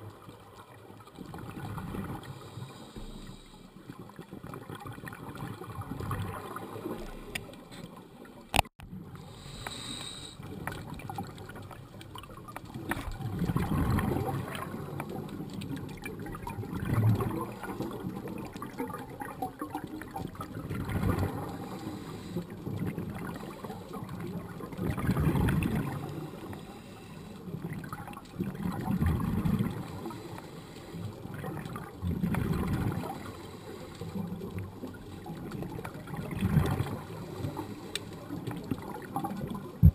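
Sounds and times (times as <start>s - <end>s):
regulator bubbling underwater: 0.0s - 7.5s, 9.0s - 39.9s
low water wash: 0.0s - 39.9s.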